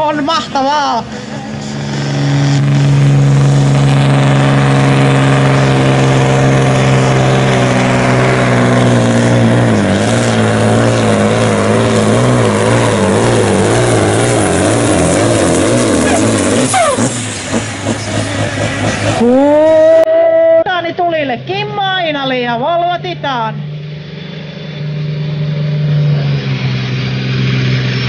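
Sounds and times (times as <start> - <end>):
diesel truck engine at high revs: 0.0 - 20.1, 20.8 - 28.0.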